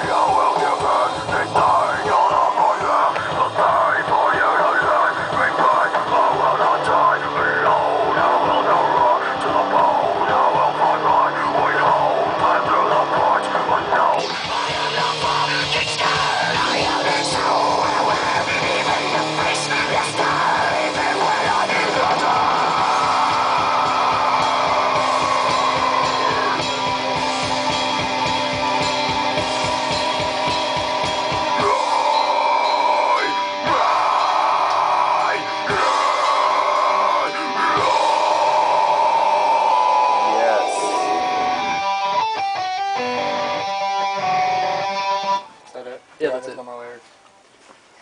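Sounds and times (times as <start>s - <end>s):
man screaming vocals: 0.0s - 27.9s, 30.8s - 42.3s
distorted electric guitar: 0.0s - 46.1s.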